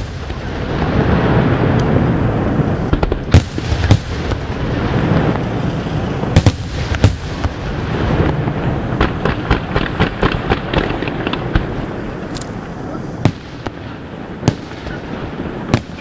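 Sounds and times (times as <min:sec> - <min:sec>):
deep rumble of firework bursts: 0:00.0 - 0:16.0
firework bangs: 0:00.0 - 0:16.0.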